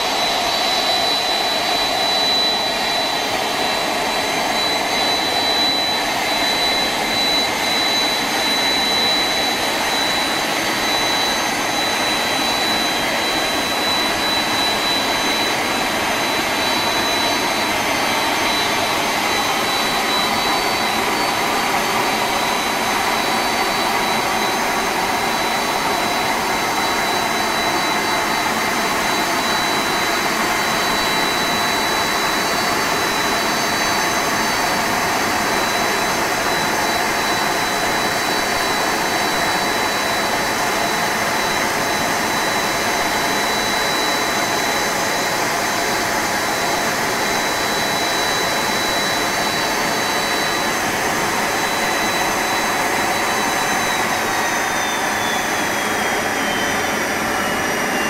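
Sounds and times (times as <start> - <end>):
high steady whine: 0.0 - 58.0
jet engines running: 0.0 - 58.0.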